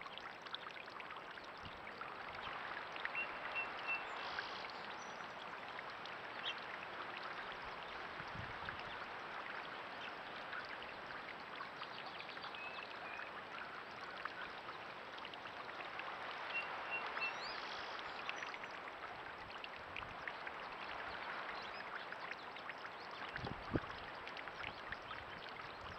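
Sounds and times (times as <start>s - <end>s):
fountain splashing into pond: 0.0s - 25.9s.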